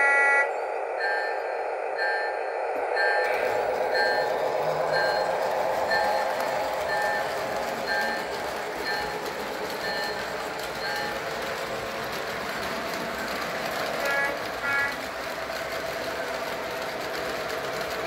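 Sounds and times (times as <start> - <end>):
model train rolling rumble: 3.0 - 18.0.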